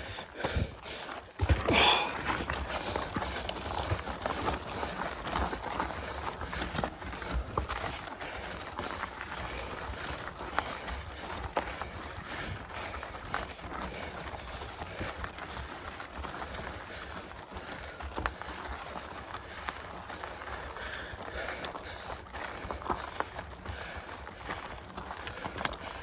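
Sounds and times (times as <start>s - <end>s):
bike clicks and rattles: 0.0s - 26.0s
bike tyres on dirt and gravel: 0.0s - 26.0s
heavy breathing: 0.0s - 26.0s.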